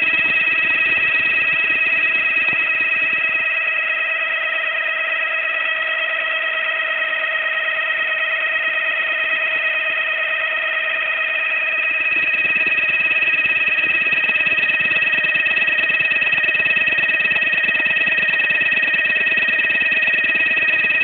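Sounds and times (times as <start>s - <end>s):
high-pitched engine whine: 0.0s - 21.0s.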